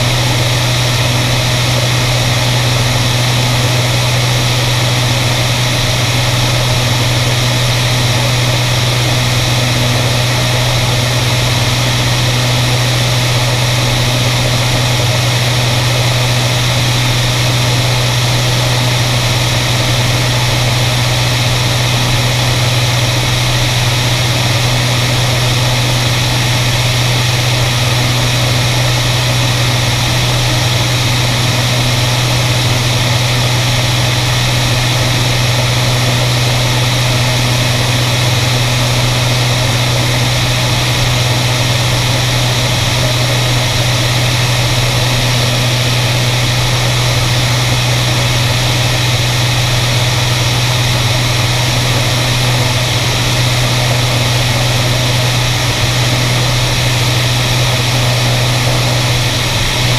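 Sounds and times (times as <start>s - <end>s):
propeller engines droning: 0.0s - 59.9s.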